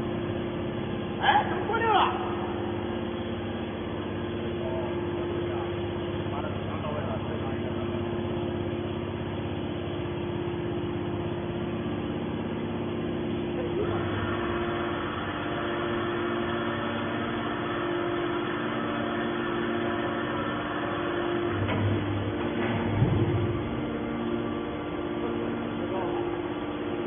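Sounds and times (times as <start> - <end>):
hydraulic baler humming: 0.0 - 27.0.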